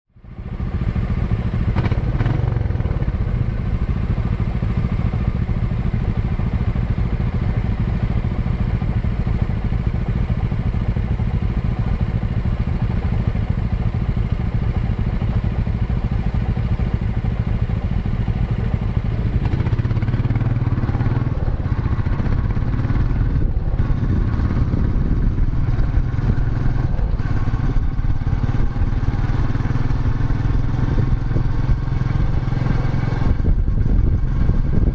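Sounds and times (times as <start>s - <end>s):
motorcycle engine and exhaust running: 0.1s - 34.9s.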